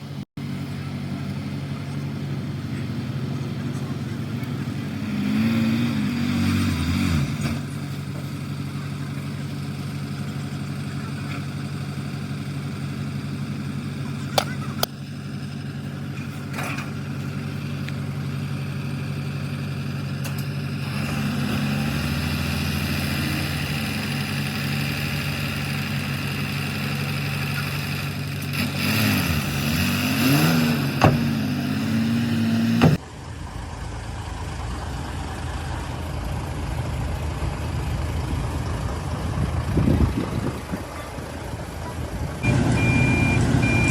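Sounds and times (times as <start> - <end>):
heavy diesel engine revving: 0.0 - 43.9.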